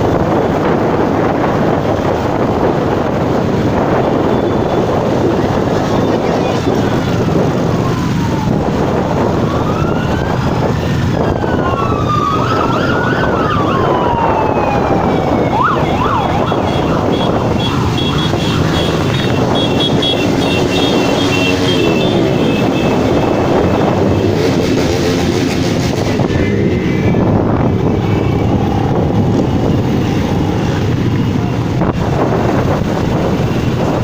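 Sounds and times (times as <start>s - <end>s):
many motorcycle engines: 0.0s - 34.0s
siren wailing: 3.4s - 34.0s.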